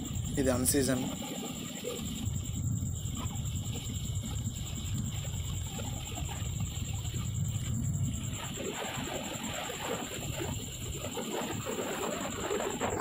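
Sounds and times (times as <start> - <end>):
high-pitched whine: 0.0 - 13.0
wind buffeting microphone: 0.0 - 13.0.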